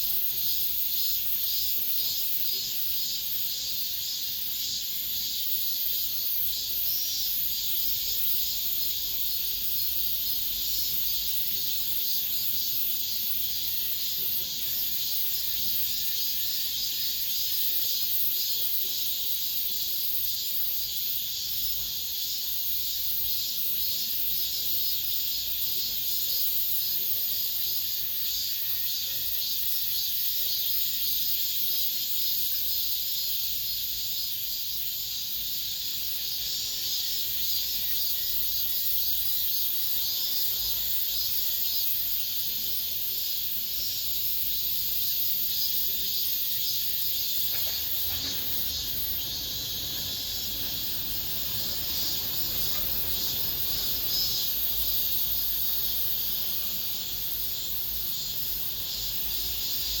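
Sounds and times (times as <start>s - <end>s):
cicadas buzzing: 0.0s - 60.0s.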